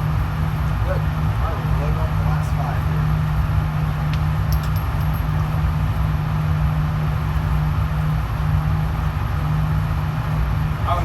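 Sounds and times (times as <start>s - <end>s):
ventilation system hum: 0.0s - 11.0s.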